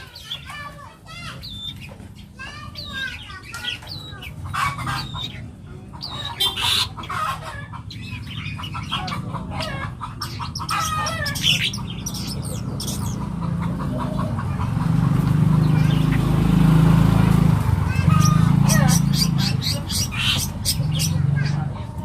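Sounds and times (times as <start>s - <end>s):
shrike singing: 1.2s - 14.2s, 15.6s - 21.4s.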